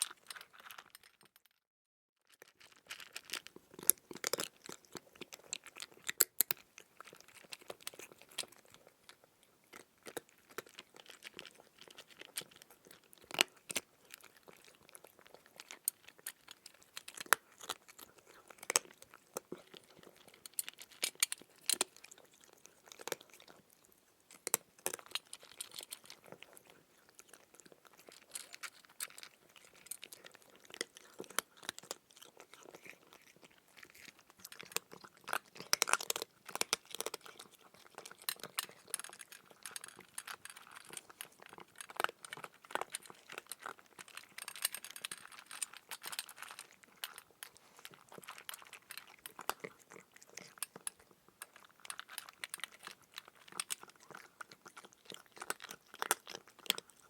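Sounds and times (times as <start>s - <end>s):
cat chewing and crunching food: 0.0s - 1.6s, 2.2s - 57.0s.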